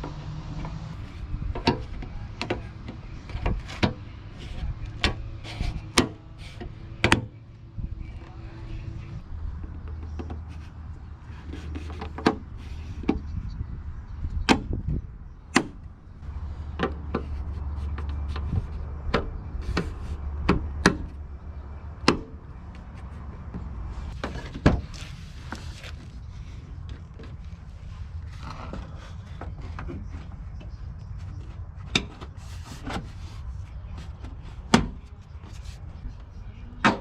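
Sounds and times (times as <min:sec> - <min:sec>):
car parts clicking and knocking: 0:00.0 - 0:07.5, 0:09.5 - 0:13.5, 0:14.1 - 0:16.0, 0:16.6 - 0:37.0.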